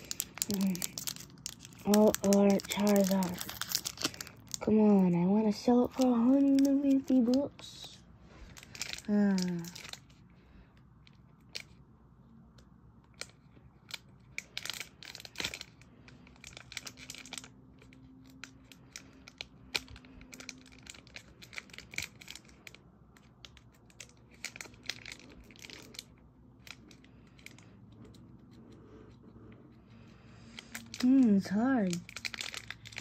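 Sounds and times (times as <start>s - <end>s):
foil wrapper crinkling and tearing: 0.0s - 10.2s, 13.1s - 27.7s, 30.5s - 33.0s.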